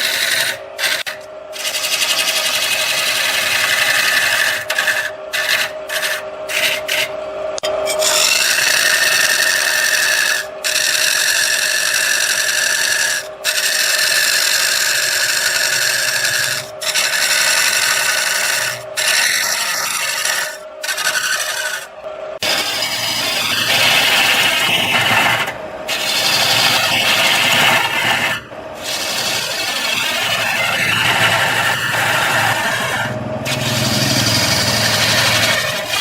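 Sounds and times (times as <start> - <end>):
lathe motor hum: 0.0 - 36.0
lathe tool cutting wood: 0.0 - 36.0.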